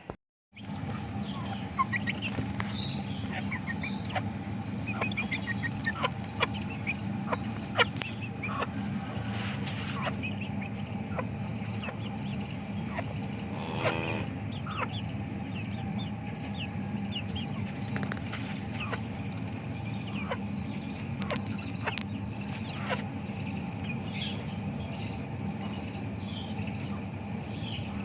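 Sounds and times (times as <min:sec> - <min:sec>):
chicks peeping: 0:00.0 - 0:28.0
steady low hum: 0:00.0 - 0:28.0
hens clucking: 0:00.6 - 0:26.1.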